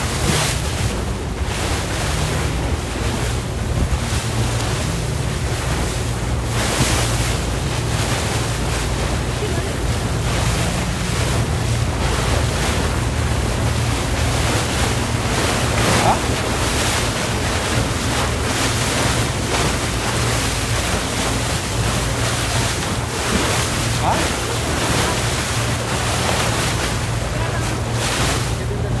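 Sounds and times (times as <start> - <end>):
rushing water: 0.0 - 29.0
speedboat engine running: 0.0 - 29.0
wind buffeting microphone: 0.0 - 29.0.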